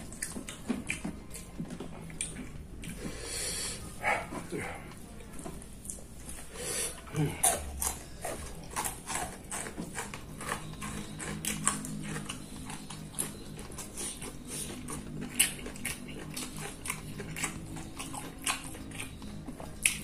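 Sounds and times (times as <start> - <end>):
person chewing and lip-smacking: 0.0 - 20.0.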